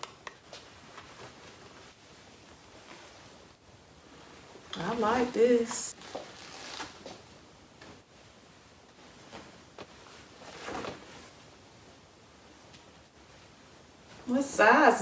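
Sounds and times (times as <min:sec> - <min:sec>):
fabric rustling: 0:00.5 - 0:15.0.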